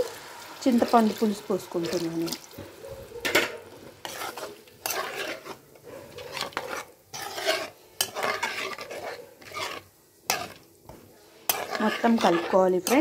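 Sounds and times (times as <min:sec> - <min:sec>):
spoon scraping metal pan: 0:00.7 - 0:13.0.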